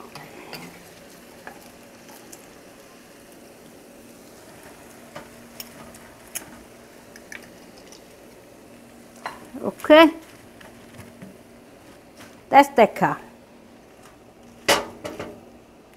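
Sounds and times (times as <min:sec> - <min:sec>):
food sizzling in oil: 0:00.0 - 0:15.7.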